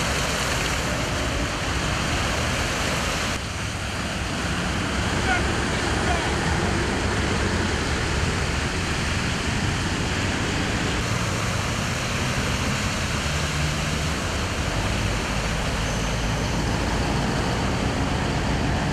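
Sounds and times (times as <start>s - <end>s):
engine rumble: 0.0s - 18.9s
tyres driving through water: 0.0s - 18.9s.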